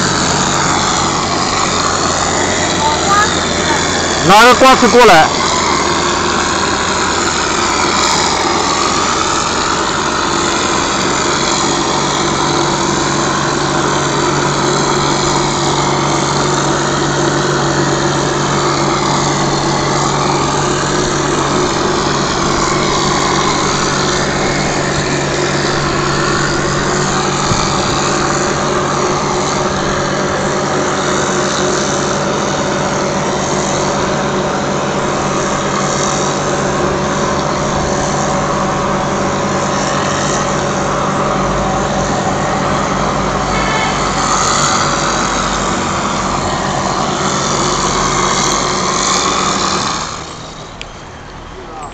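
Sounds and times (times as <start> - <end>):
mortar spraying with a hiss: 0.0 - 50.8
plastering machine droning: 0.0 - 51.9.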